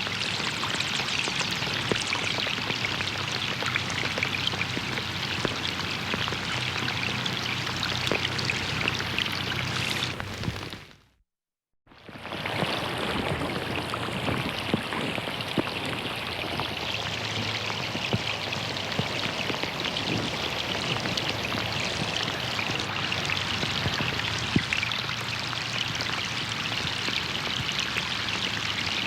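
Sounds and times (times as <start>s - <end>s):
rain falling on a pond: 0.0s - 11.0s, 11.9s - 29.0s.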